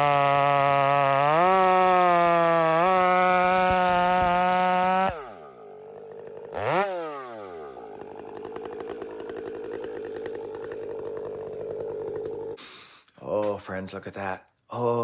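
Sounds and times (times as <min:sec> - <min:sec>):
chainsaw engine revving and idling: 0:00.0 - 0:12.6.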